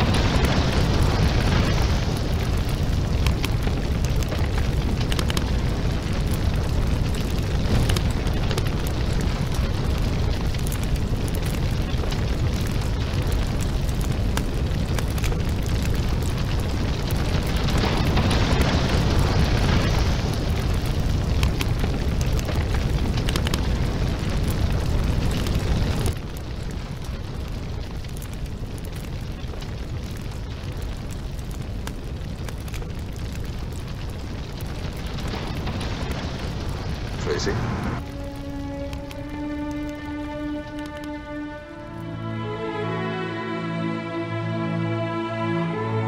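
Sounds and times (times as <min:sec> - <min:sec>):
rumbling explosion: 0:00.0 - 0:42.1
fire crackles and pops: 0:00.0 - 0:43.1
raging fire roar: 0:00.0 - 0:43.1.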